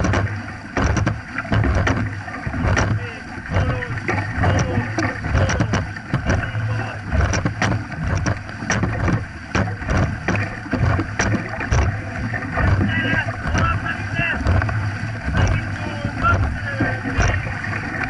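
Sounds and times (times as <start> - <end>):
paddles splashing through water: 0.0 - 18.0
water rushing along hull: 0.0 - 18.0.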